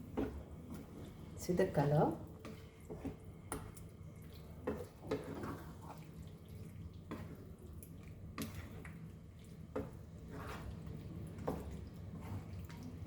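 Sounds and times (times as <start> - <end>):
spoon stirring thick curry: 2.3 - 13.0.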